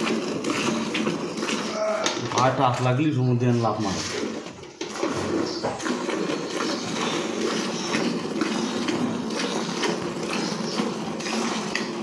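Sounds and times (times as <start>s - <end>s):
milk squirting into a metal pail: 0.0s - 12.0s.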